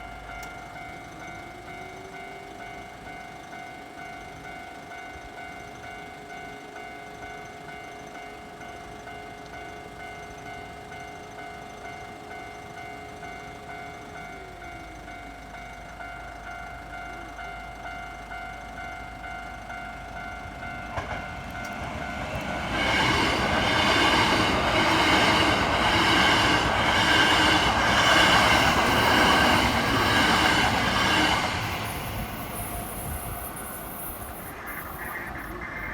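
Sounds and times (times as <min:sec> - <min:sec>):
electric train passing: 0:00.0 - 0:35.9
level crossing warning bell ringing: 0:00.0 - 0:35.9.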